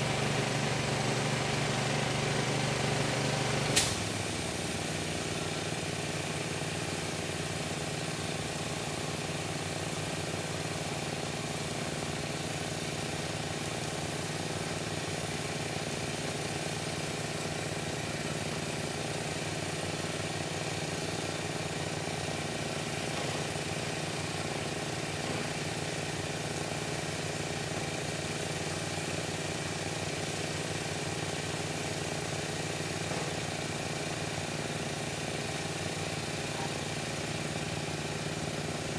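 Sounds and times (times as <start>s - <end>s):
pressure washer engine hum: 0.0s - 38.9s
water spraying concrete: 0.0s - 38.9s.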